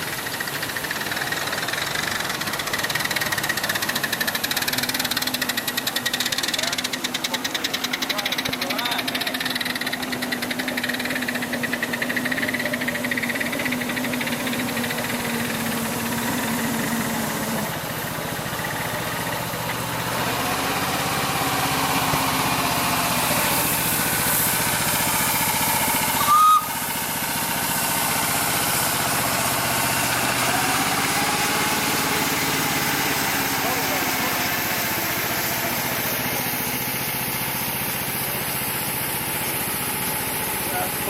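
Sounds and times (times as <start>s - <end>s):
miniature train running on track: 0.0s - 41.0s.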